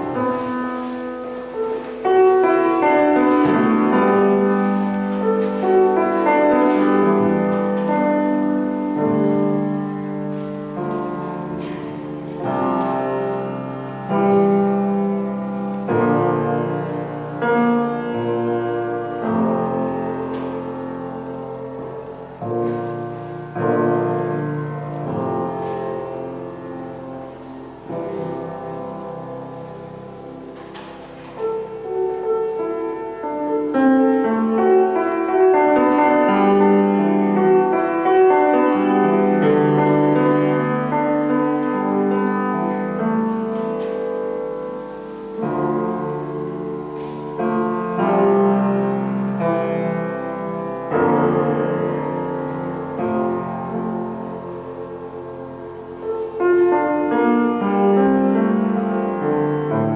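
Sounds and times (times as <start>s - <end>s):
slow solo piano music: 0.0s - 59.9s.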